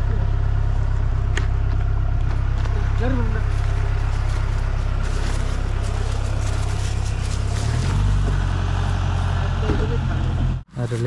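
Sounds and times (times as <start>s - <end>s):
engine idling: 0.0s - 10.7s.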